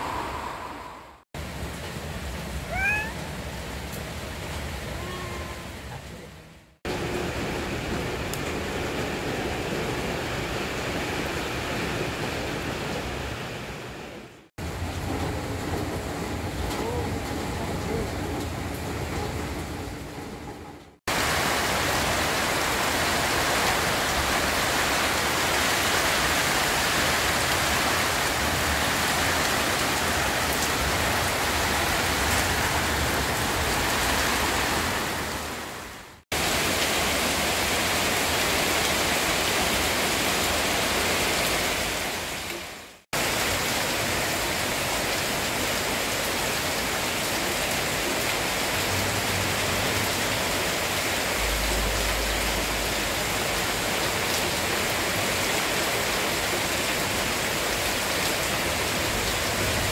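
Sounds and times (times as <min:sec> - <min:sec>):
heavy rain on leaves: 0:01.4 - 0:19.8, 0:21.1 - 0:59.9.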